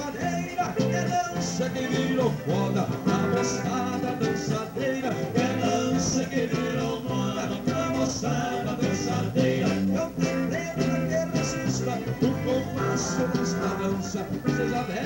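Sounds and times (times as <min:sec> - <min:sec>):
live band playing: 0:00.0 - 0:15.0
man singing: 0:00.0 - 0:15.0.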